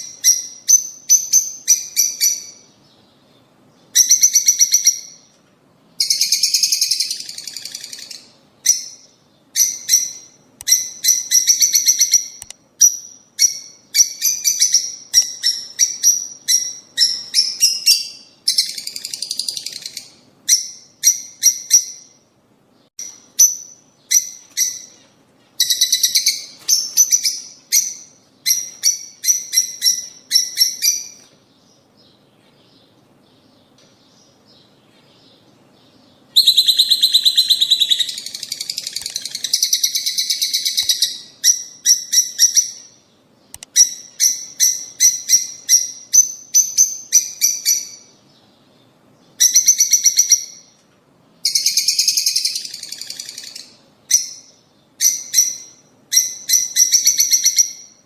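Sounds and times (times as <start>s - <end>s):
lovebirds chirping: 0.0s - 50.8s.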